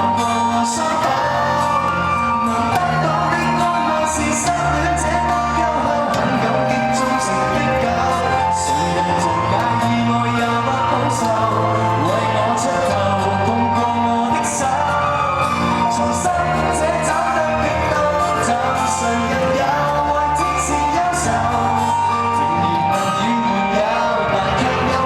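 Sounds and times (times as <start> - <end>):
live pop band music: 0.0 - 25.0.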